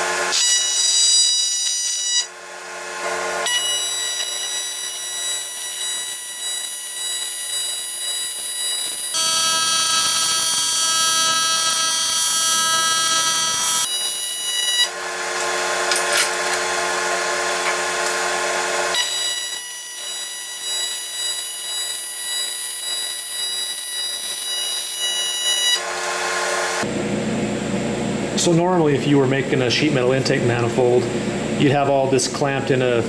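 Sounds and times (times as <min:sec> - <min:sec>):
welding arc buzzing: 0:00.0 - 0:27.0.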